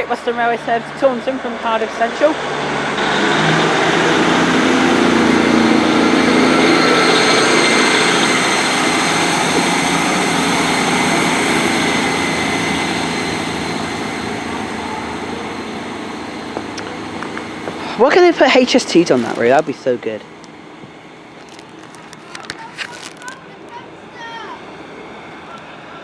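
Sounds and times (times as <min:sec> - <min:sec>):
diesel train engines pulling away: 0:00.0 - 0:26.0.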